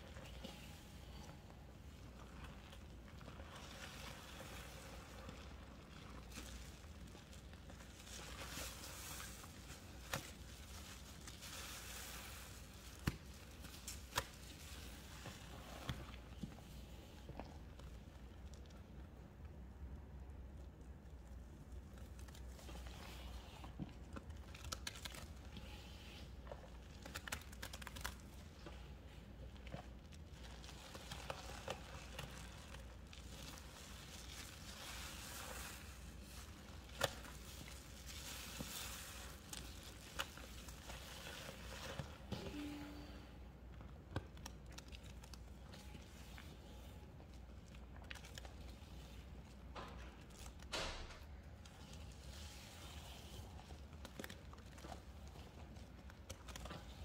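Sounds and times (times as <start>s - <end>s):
soapy paste squishing and crackling: 0.0s - 57.0s.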